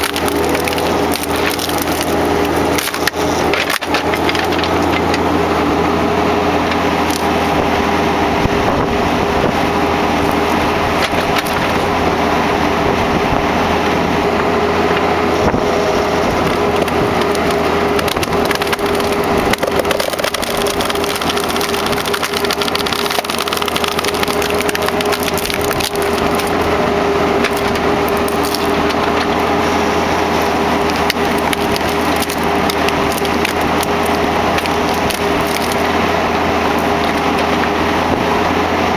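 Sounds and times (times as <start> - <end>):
diesel engine under load: 0.0 - 38.9
wood crackling and splintering: 0.0 - 38.9.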